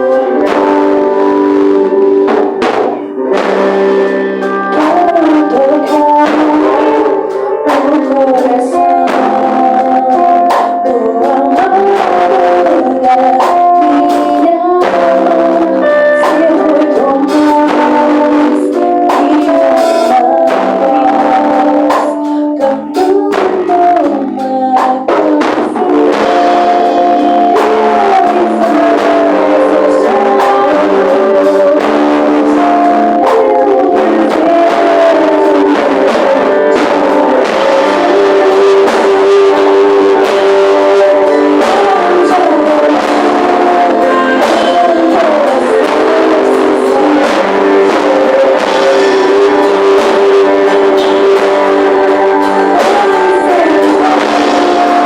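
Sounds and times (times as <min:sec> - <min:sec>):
person singing: 0:00.0 - 0:55.0
worship band playing: 0:00.0 - 0:55.0.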